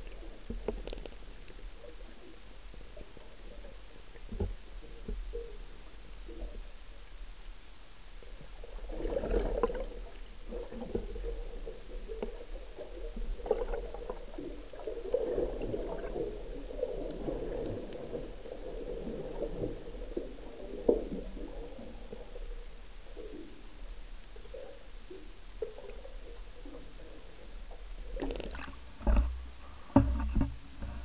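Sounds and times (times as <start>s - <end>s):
underwater gurgling and sloshing: 0.0s - 31.0s.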